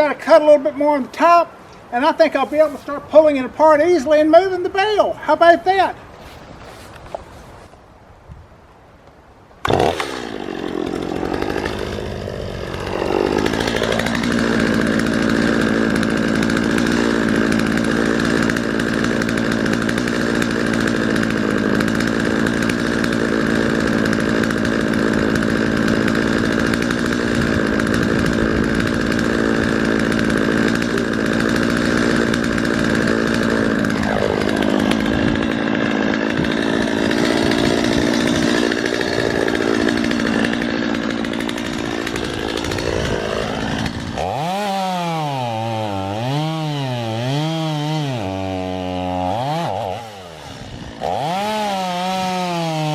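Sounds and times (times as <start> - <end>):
chainsaw cutting hay bale: 2.0 - 3.4, 4.0 - 7.8, 9.6 - 52.9.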